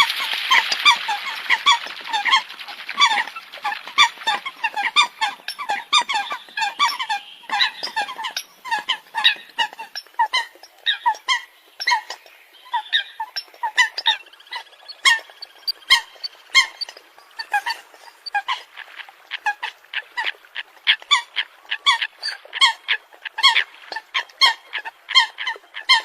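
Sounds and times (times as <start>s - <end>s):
coots calling: 0.0s - 26.0s.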